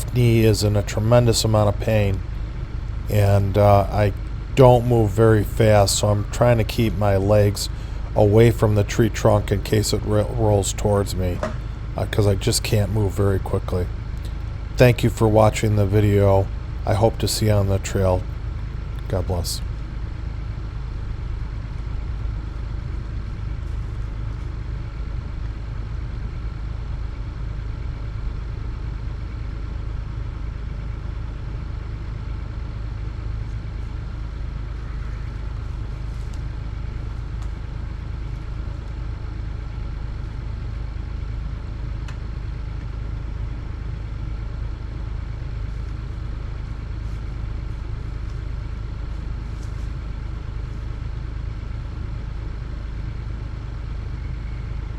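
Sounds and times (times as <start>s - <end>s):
excavator diesel engine idling: 0.0s - 54.9s.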